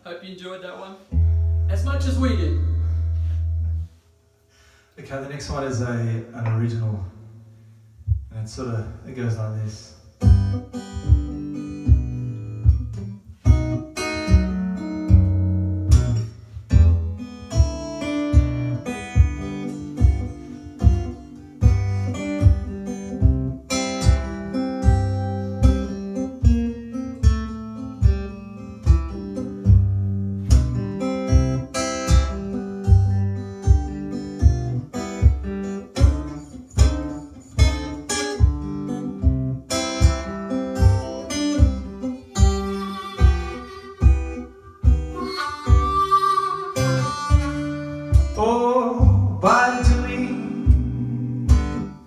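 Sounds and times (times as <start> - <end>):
low bass notes: 1.1 - 4.0, 6.4 - 9.5, 10.2 - 43.5, 47.0 - 52.0
acoustic guitar strumming: 1.1 - 4.8, 10.0 - 52.0.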